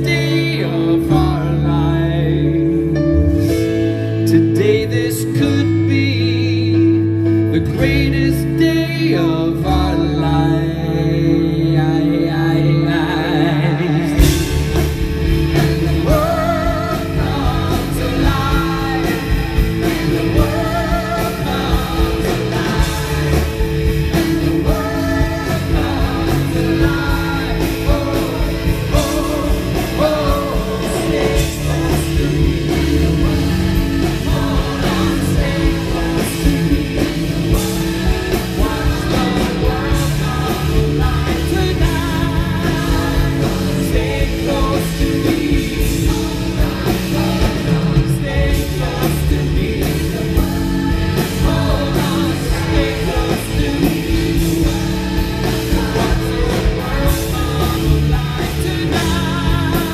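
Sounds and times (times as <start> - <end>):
man singing live: 0.0 - 59.9
pop band playing: 0.0 - 59.9.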